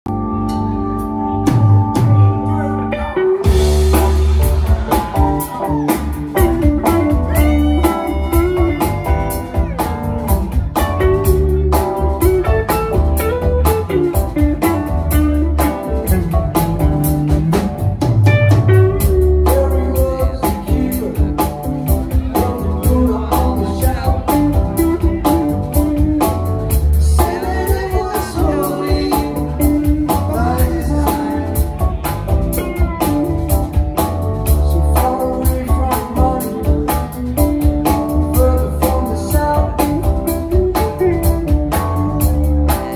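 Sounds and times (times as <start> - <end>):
electric bass: 0.0 - 42.9
keyboards: 0.0 - 42.9
drum kit: 0.1 - 42.9
electric guitar: 0.1 - 42.9.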